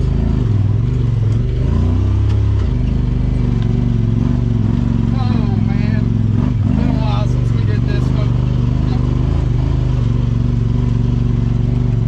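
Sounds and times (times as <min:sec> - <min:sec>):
off-road vehicle engine driving: 0:00.0 - 0:12.0.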